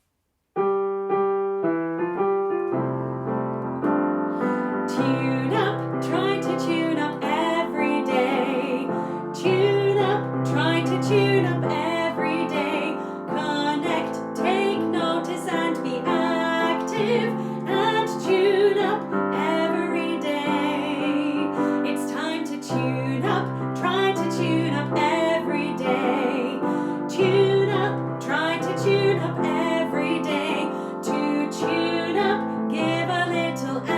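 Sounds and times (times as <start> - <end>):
piano chords: 0.6 - 33.9.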